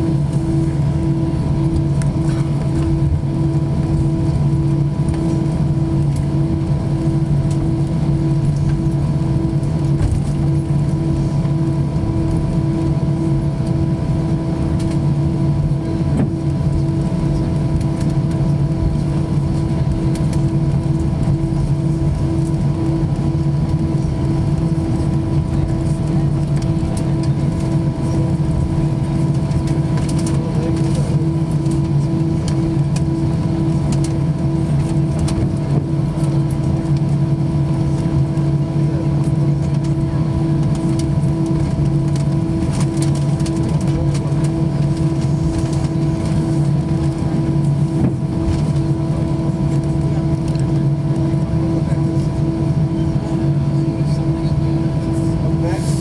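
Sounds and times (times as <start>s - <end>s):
aircraft engine hum: 0.0s - 56.0s.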